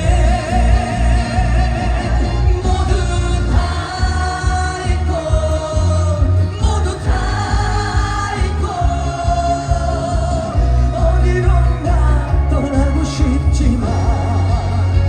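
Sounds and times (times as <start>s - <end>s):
pounding bass beat: 0.0s - 15.0s
trot song over loudspeakers: 0.0s - 15.0s.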